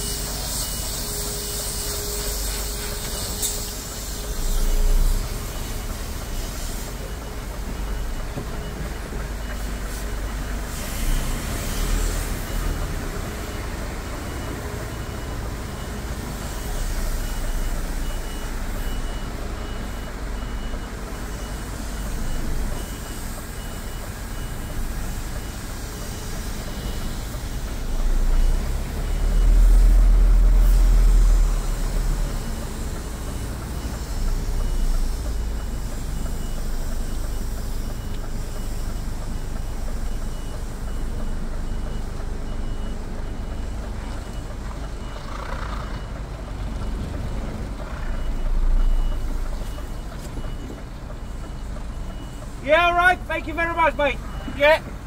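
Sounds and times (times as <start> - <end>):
diesel engine running: 0.0 - 55.0
truck reversing alarm beeping: 0.0 - 55.0.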